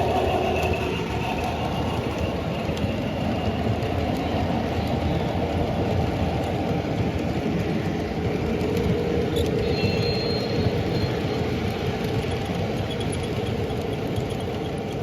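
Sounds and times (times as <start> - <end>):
model train wheels and motor rumbling: 0.0 - 15.0.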